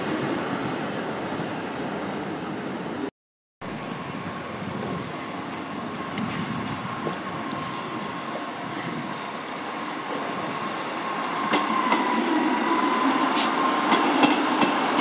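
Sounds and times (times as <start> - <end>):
diesel train approaching: 0.0 - 15.0.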